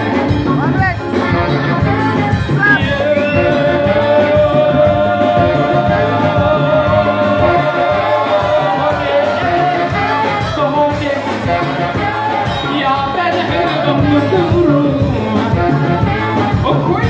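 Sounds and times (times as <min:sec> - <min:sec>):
bass: 0:00.0 - 0:17.0
drums: 0:00.0 - 0:17.0
horns: 0:00.0 - 0:17.0
man singing: 0:00.0 - 0:17.0.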